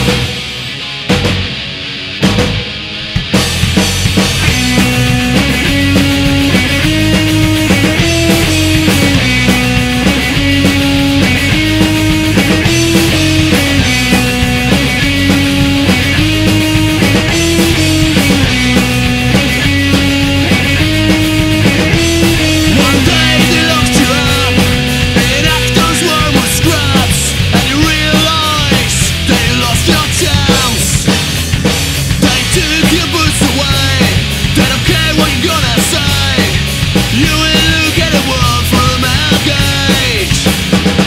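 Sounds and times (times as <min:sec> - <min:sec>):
punk rock song: 0:00.0 - 0:41.0.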